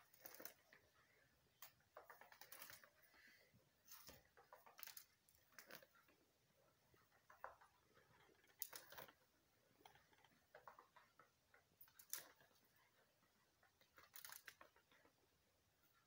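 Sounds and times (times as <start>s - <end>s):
faint scratching and ticking: 0.0s - 16.0s.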